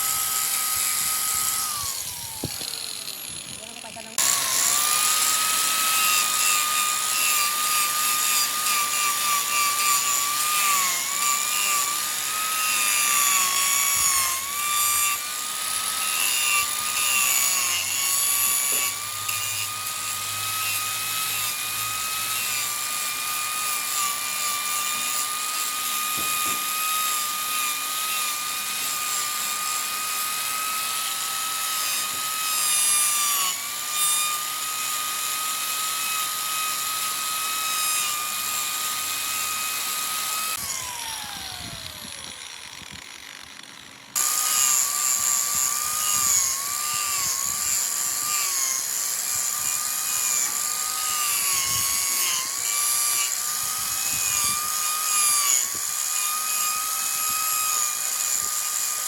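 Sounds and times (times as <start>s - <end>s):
power tool motor whining: 0.0s - 59.0s.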